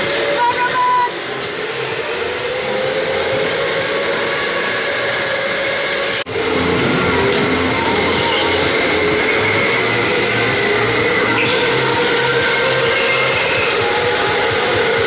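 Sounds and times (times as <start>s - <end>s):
electric go-karts whirring: 0.0s - 15.0s.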